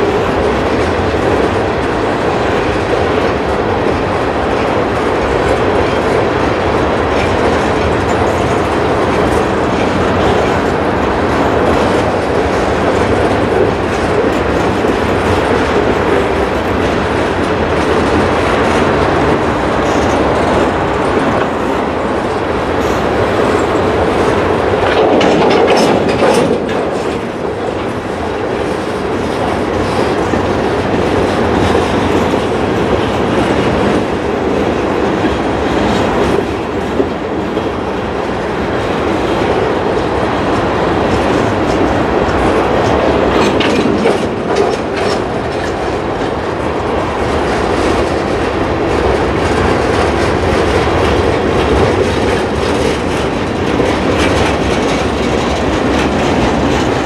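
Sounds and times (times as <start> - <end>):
freight train wheels rumbling: 0.0 - 57.0
wheels clacking over rail joints: 0.0 - 57.0.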